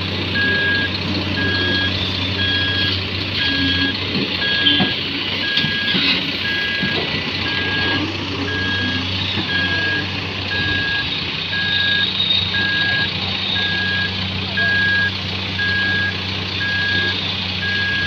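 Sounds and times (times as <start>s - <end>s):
diesel engines droning: 0.0s - 18.0s
machinery warning alarm beeping: 0.4s - 18.0s.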